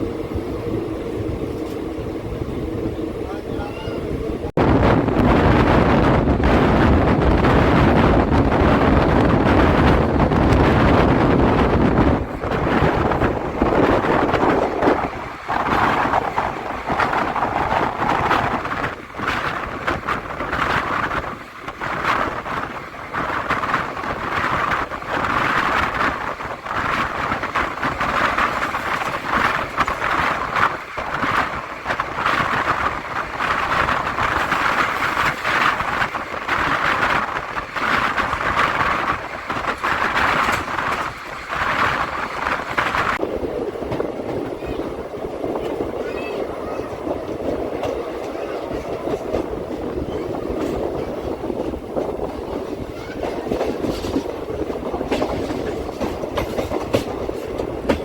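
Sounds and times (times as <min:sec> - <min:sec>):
train wheels rushing on rails: 0:00.0 - 0:58.0.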